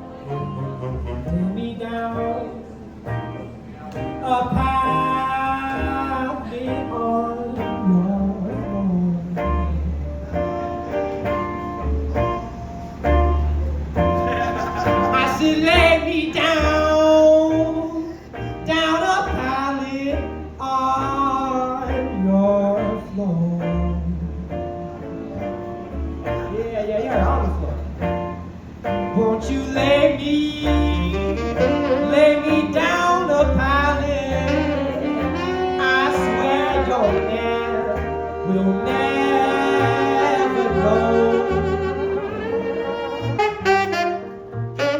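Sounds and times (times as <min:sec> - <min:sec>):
bass line: 0:00.0 - 0:44.9
guitar: 0:00.0 - 0:44.9
live jazz band playing: 0:00.0 - 0:44.9.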